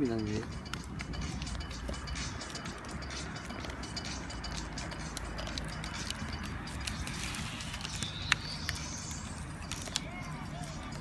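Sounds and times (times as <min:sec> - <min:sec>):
bamboo crackling and popping in fire: 0:00.0 - 0:11.0
low fire rumble: 0:00.0 - 0:11.0.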